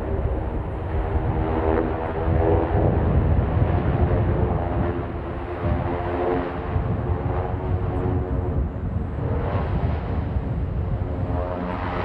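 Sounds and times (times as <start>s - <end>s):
propeller planes droning overhead: 0.0s - 12.0s.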